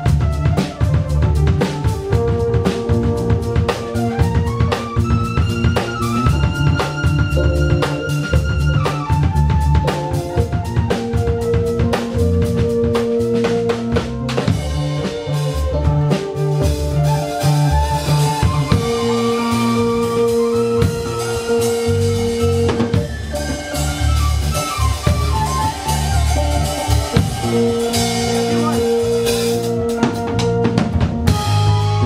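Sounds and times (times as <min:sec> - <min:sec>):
drum kit groove: 0:00.0 - 0:32.0
electric bass line: 0:00.0 - 0:32.0
held keyboard notes: 0:00.0 - 0:32.0.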